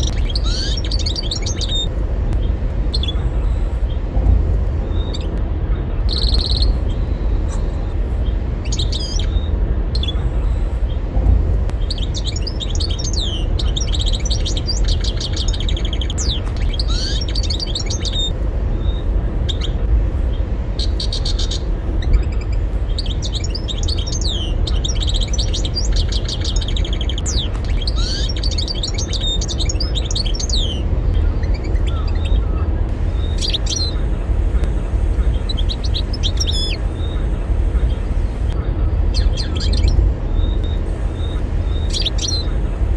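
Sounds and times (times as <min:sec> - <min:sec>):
finch twittering and trilling: 0:00.0 - 0:04.2, 0:04.8 - 0:42.9
steady low rumble: 0:00.0 - 0:42.9.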